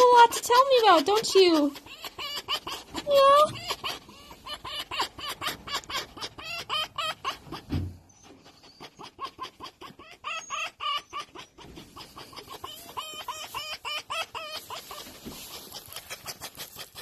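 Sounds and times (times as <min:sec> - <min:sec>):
fox chattering: 0:00.0 - 0:17.0.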